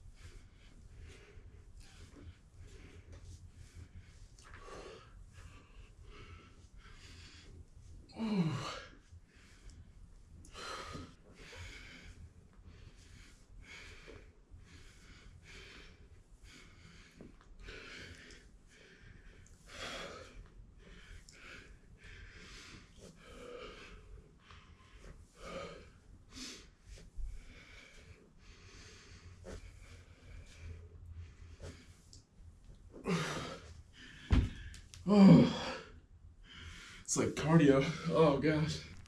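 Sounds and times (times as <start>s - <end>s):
man breathing hard: 0.0s - 39.0s.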